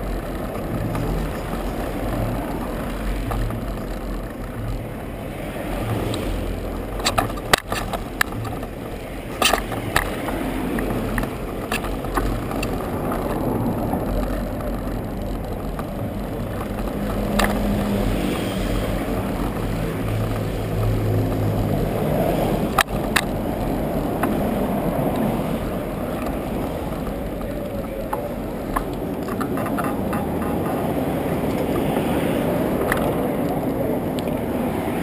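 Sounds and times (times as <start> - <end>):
bicycle tyres rumbling on paving: 0.0 - 35.0
bike clicks and knocks: 0.0 - 35.0
wind on microphone: 0.0 - 35.0.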